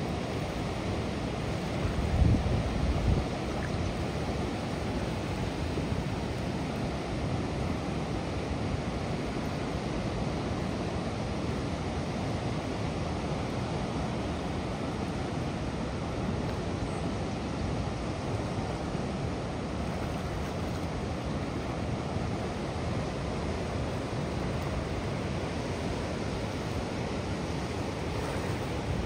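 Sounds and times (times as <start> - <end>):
water rushing over a dam: 0.0 - 29.0.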